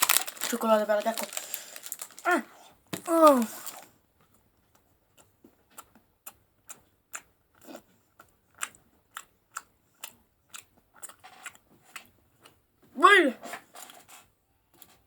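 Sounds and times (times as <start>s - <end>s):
person chewing chocolate: 0.0s - 2.3s, 3.0s - 12.8s.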